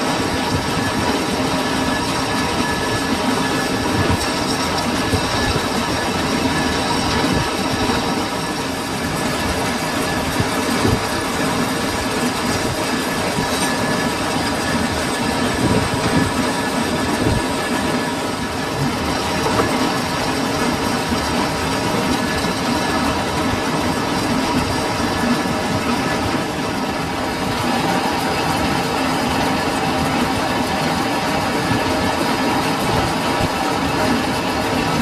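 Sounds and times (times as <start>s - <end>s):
metal lathe running: 0.0s - 35.0s.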